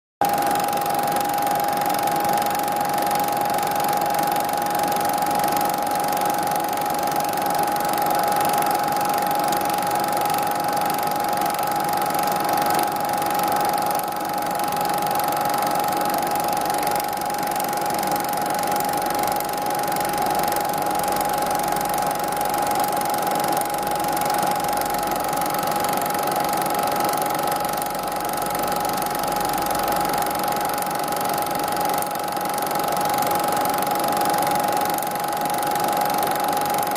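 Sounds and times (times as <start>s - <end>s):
machine running with high hum: 0.2s - 36.9s.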